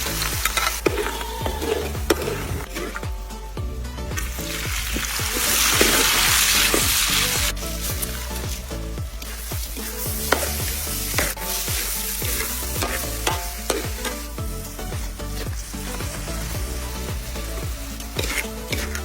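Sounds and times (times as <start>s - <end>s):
spatula scraping a pan: 0.0s - 3.5s, 4.2s - 19.0s
food sizzling in a pan: 0.0s - 19.0s.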